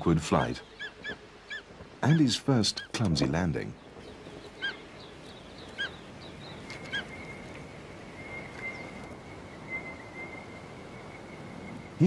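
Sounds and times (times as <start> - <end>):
bird chirping: 0.0 - 3.0, 3.6 - 12.0.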